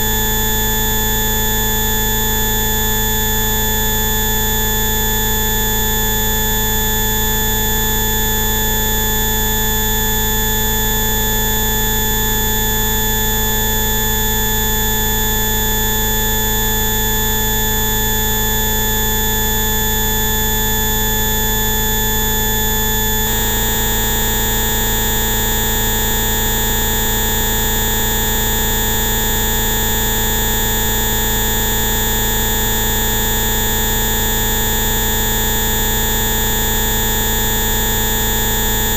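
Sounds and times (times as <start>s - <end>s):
electronic tone drone: 0.0s - 38.9s.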